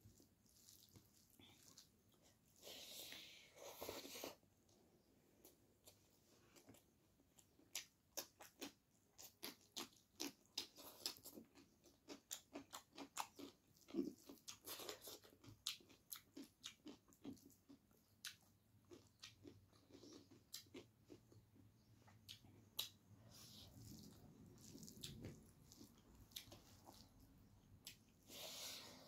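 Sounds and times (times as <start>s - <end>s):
person chewing food: 0.0s - 4.8s, 5.4s - 29.0s.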